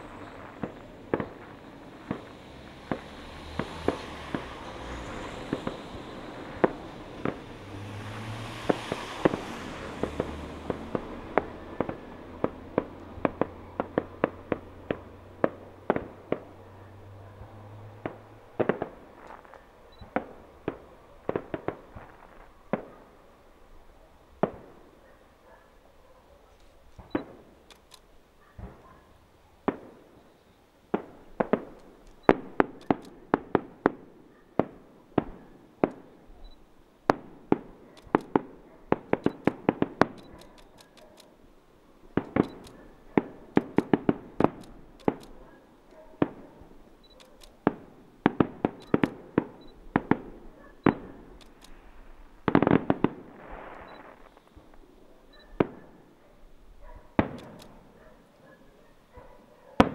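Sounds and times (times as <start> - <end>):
fireworks bursting: 0.0 - 25.4, 26.7 - 56.2, 57.0 - 58.1.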